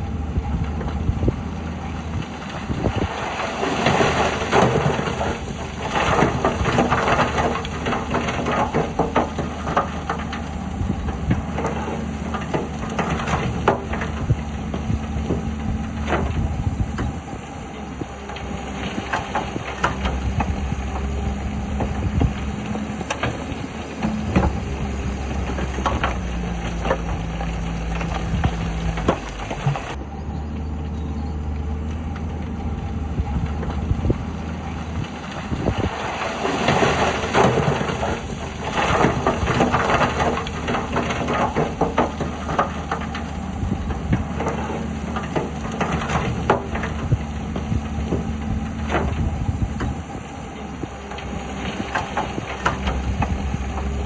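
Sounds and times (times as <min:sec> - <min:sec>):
heavy diesel machines running: 0:00.0 - 0:54.0.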